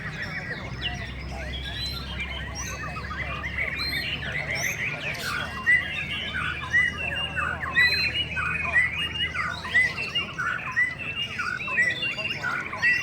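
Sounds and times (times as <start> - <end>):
many songbirds singing: 0.0 - 13.0.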